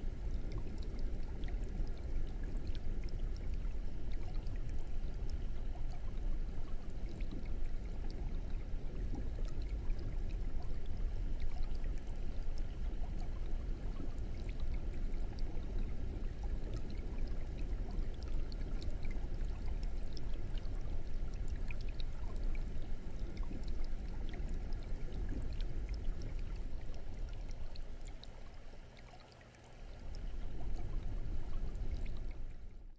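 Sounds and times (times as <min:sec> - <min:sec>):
aquarium bubbling: 0:00.0 - 0:32.9.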